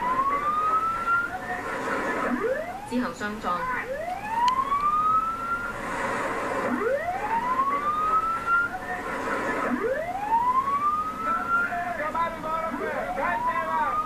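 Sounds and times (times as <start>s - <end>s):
alarm siren wailing in rising sweeps: 0.0s - 14.0s.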